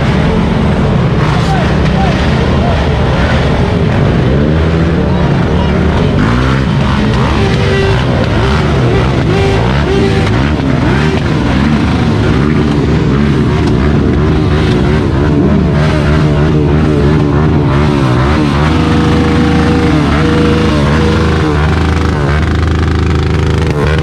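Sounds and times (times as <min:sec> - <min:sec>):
engines revving: 0:00.0 - 0:24.0.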